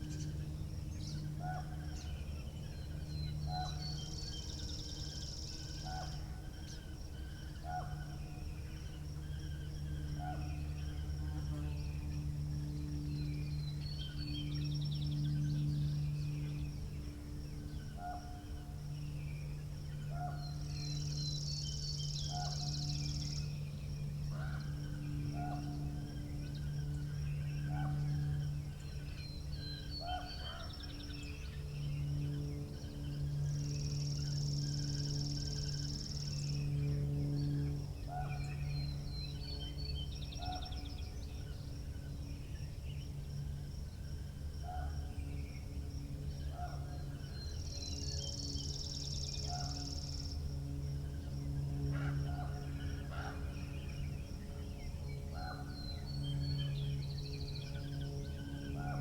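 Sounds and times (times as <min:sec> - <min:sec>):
steady low hum: 0:00.0 - 0:59.0
high insect trill: 0:04.0 - 0:59.0.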